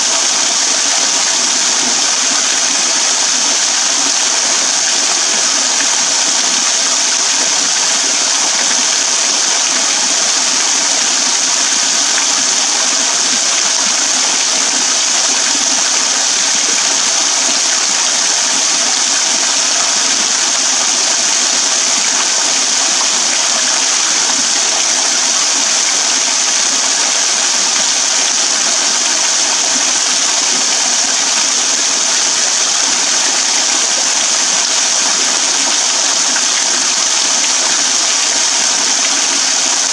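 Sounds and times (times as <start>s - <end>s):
waterfall splashing on wet ground: 0.0s - 39.9s.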